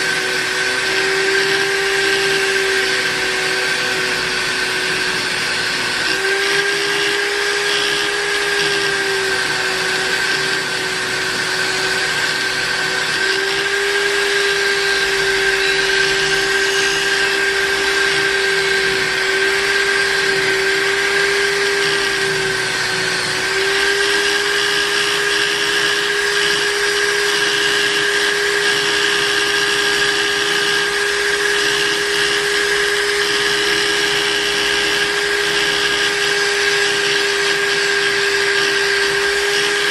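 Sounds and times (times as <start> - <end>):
buffing machine motor whine: 0.0 - 39.9.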